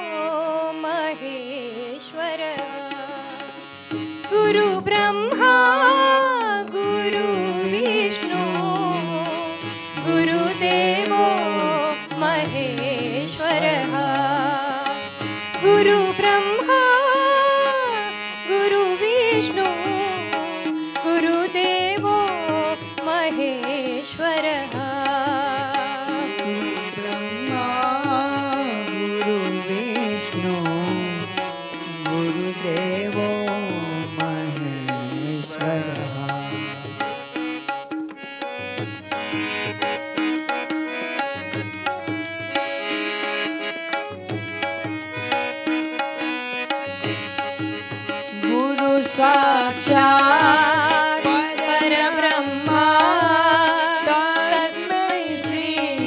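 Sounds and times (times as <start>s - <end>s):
instrumental accompaniment: 0.0s - 56.0s
person singing devotional melody: 0.0s - 56.0s.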